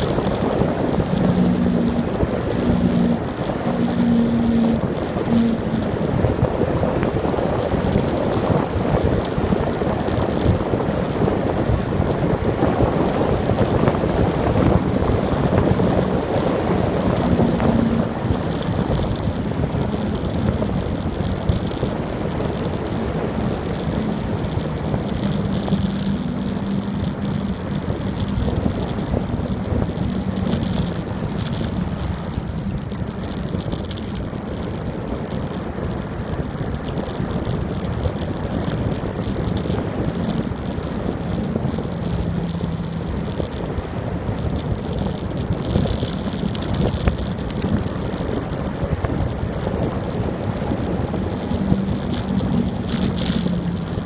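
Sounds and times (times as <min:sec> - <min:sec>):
bicycle road noise on asphalt: 0:00.0 - 0:54.0
wind on microphone: 0:00.0 - 0:54.0.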